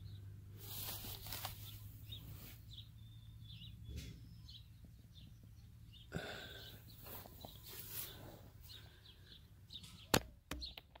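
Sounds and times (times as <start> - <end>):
bird chirps and calls: 1.3 - 10.9.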